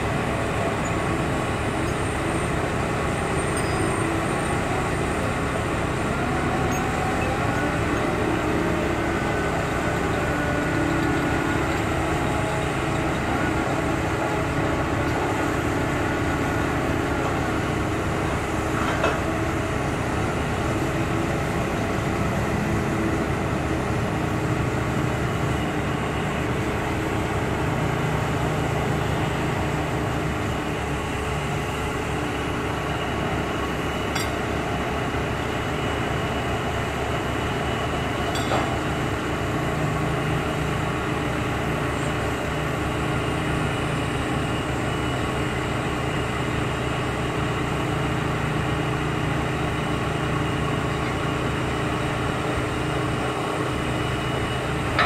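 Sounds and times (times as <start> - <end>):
diesel construction machinery running: 0.0 - 55.0.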